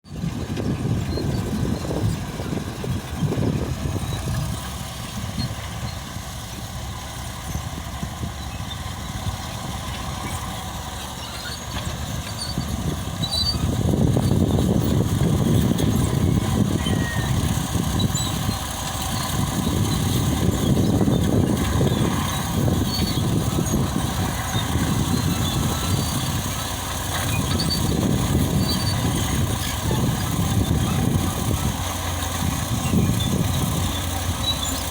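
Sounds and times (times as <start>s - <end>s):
bulldozer diesel engine rumbling: 0.0s - 34.9s.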